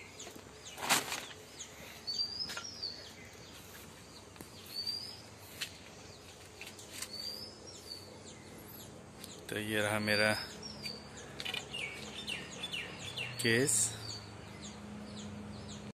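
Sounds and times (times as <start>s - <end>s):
outdoor background noise: 0.0s - 15.9s
small bird chirping: 0.0s - 15.9s.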